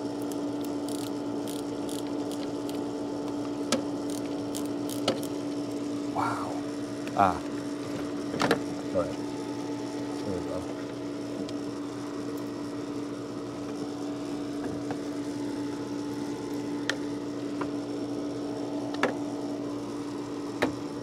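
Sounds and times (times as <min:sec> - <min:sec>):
motor hum: 0:00.0 - 0:21.0.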